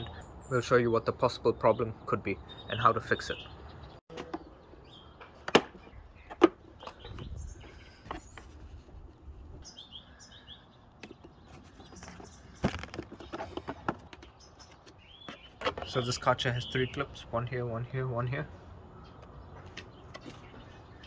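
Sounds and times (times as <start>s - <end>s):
birds chirping faintly: 0.0s - 21.0s.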